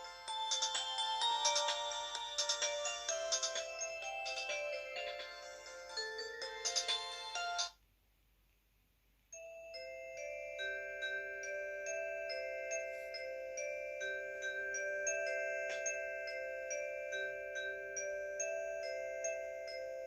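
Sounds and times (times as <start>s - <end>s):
chiming bell-like ringtone notes: 0.0s - 7.8s, 9.4s - 20.0s
polyphonic ringtone tune: 0.0s - 7.8s, 9.4s - 20.0s.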